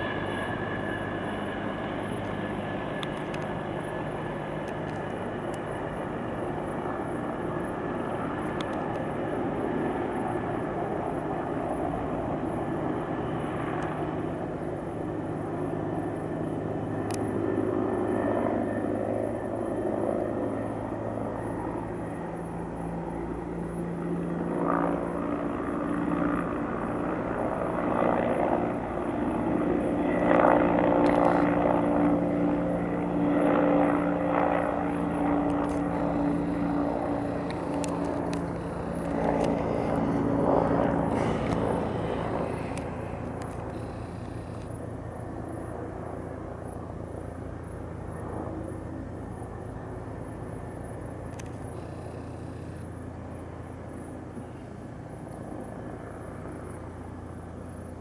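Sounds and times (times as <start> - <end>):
helicopter rotor and turbine: 0.0 - 58.0.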